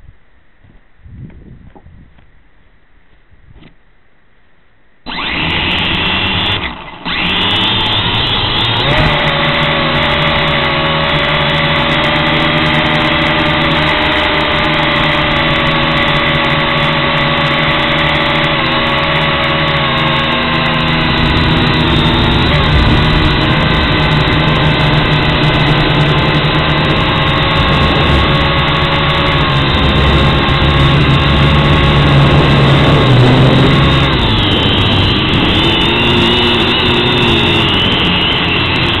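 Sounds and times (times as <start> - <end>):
toy drone motors whining: 5.1 - 39.0.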